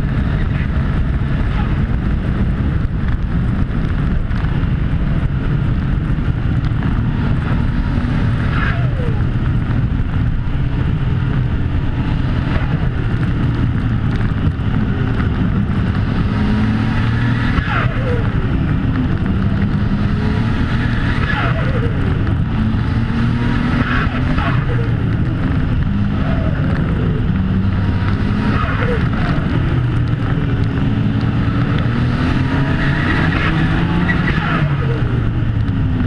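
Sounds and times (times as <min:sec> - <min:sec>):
car engine running hard: 0:00.0 - 0:36.0.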